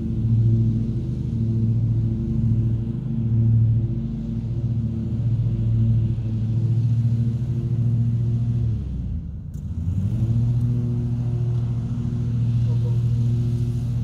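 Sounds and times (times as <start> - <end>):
riding lawn mower engine running: 0.0 - 14.0.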